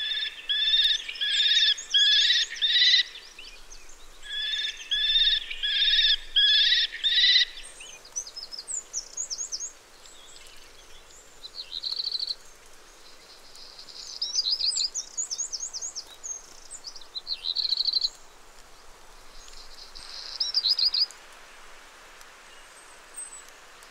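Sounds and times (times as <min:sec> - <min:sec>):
songbirds chirping: 0:00.0 - 0:23.9.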